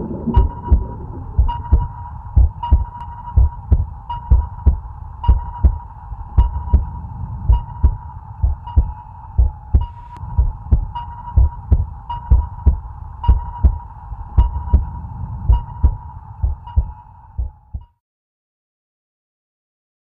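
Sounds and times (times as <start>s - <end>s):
heartbeat thumping: 0.0s - 13.8s, 14.4s - 17.9s
steady high hum: 0.0s - 17.8s.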